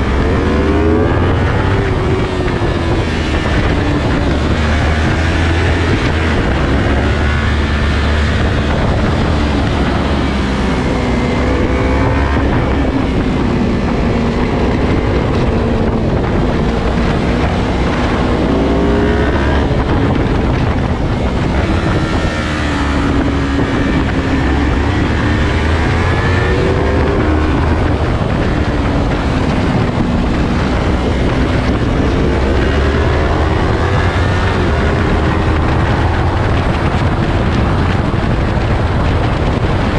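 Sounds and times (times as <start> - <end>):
motorcycle engine revving: 0.0 - 39.9
wind rushing over microphone: 0.0 - 39.9.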